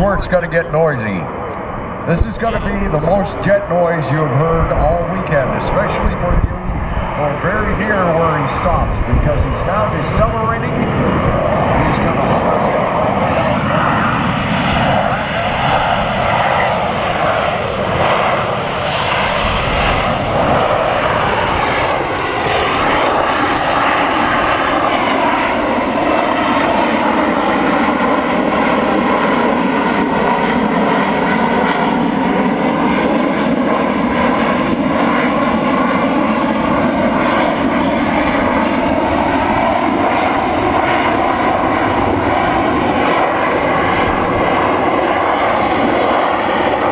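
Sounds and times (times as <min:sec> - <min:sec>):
jet engine roaring: 0:00.0 - 0:46.9.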